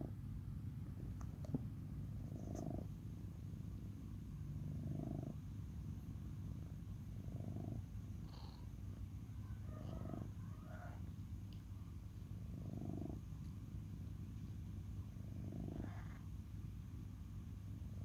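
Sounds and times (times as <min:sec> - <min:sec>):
cat purring: 0:01.2 - 0:18.0.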